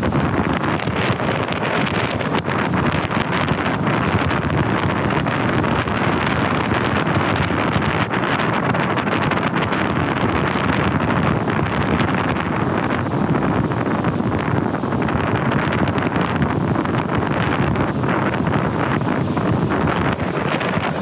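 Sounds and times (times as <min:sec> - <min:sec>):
heavy surf breaking: 0:00.0 - 0:21.0
wind buffeting microphone: 0:00.0 - 0:21.0.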